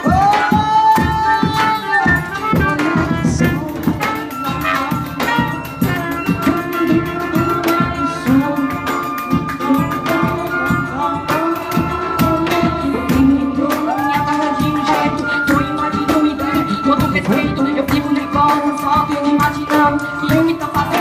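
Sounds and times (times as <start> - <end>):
hand percussion beat: 0.0 - 21.0
wind instruments holding long notes: 0.0 - 21.0.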